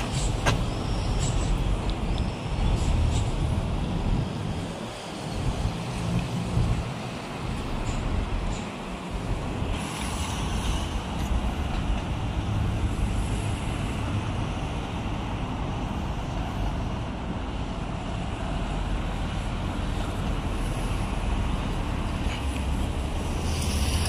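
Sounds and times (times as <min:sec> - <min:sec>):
road traffic noise: 0:00.0 - 0:24.0
wind rumbling on microphone: 0:00.0 - 0:24.0.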